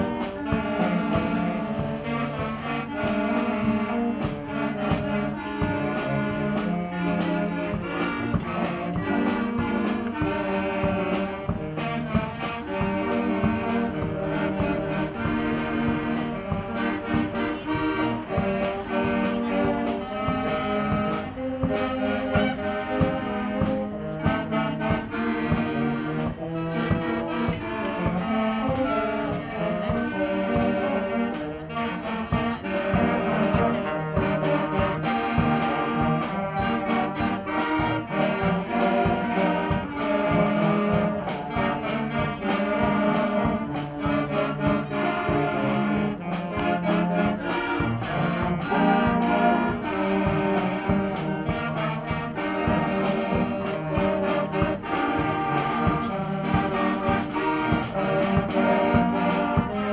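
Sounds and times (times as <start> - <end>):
concert band playing: 0.0 - 59.9.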